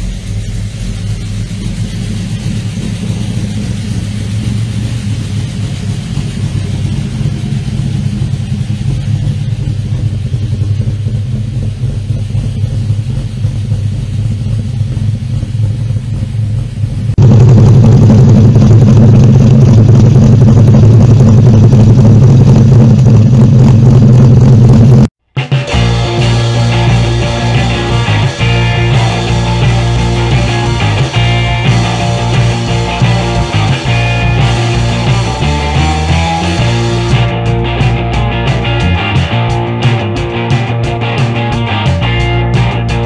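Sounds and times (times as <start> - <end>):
car engine idling rumble: 0.0 - 25.1, 25.9 - 43.0.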